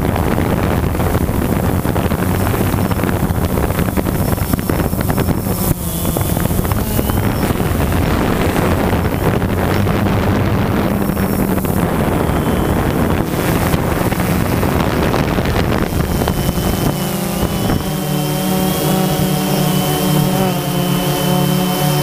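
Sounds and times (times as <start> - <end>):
drone motors and propellers: 0.0 - 22.0
wind on microphone: 0.0 - 22.0.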